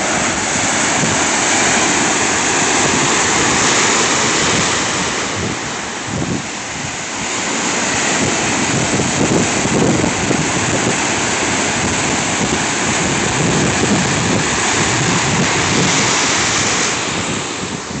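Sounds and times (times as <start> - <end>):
heavy surf breaking over rocks: 0.0 - 18.0
wind buffeting microphone: 0.0 - 18.0.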